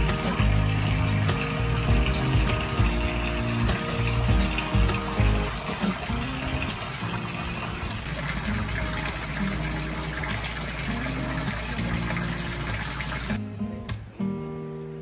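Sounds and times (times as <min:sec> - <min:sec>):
flowing water rushing: 0:00.0 - 0:13.4.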